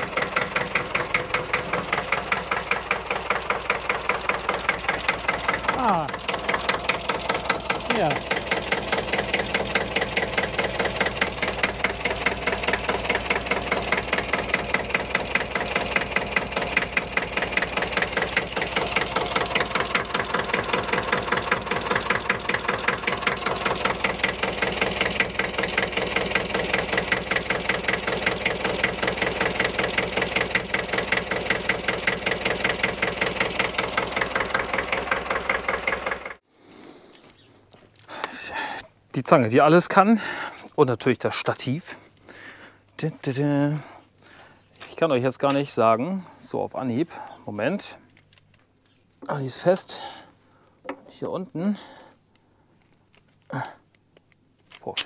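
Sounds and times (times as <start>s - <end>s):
tractor diesel engine idling: 0.0s - 36.5s, 39.6s - 48.2s.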